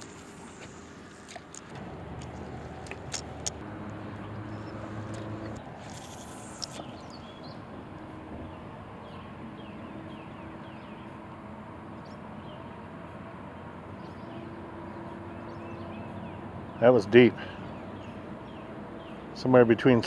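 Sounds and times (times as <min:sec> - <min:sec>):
steady low hum: 0:00.0 - 0:20.0
small birds chirping: 0:02.3 - 0:07.7, 0:08.4 - 0:12.7, 0:13.6 - 0:20.0.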